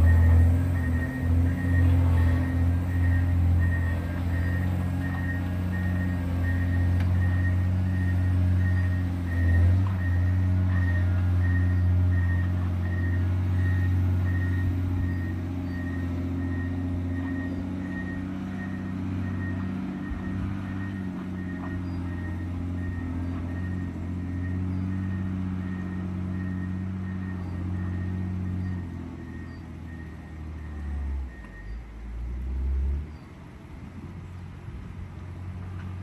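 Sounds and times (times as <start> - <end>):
reversing alarm beeping: 0.0 - 31.9
diesel engine running: 0.0 - 36.0.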